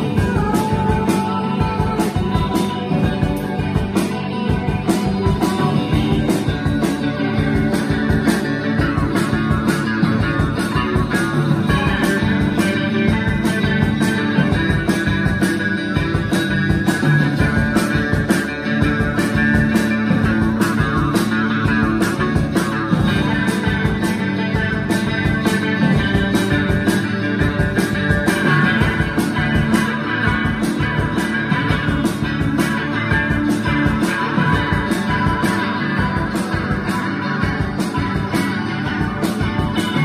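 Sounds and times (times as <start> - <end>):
rock band playing live: 0.0 - 40.0.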